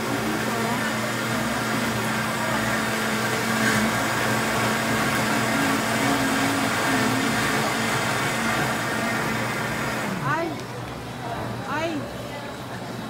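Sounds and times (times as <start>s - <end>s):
blender running: 0.0s - 10.6s.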